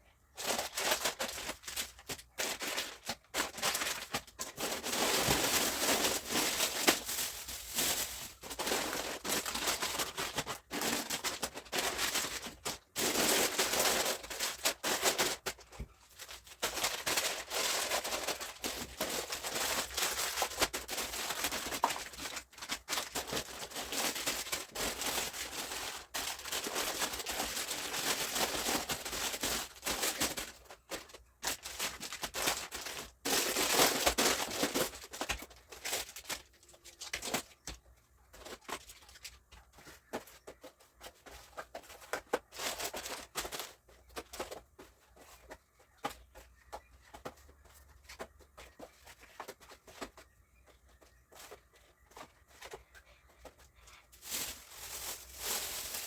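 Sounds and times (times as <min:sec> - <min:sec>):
plastic bags rustling and crinkling: 0:00.2 - 0:37.8, 0:38.4 - 0:45.5, 0:51.4 - 0:56.0.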